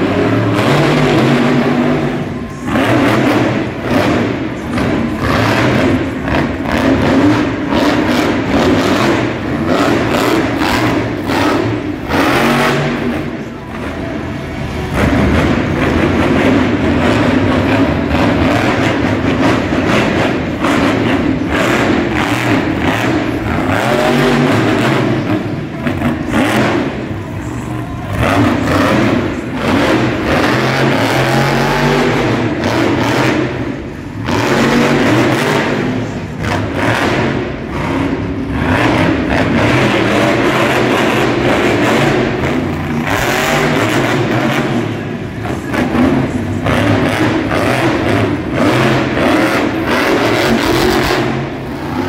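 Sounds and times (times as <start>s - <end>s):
monster truck engines revving: 0.0s - 52.0s.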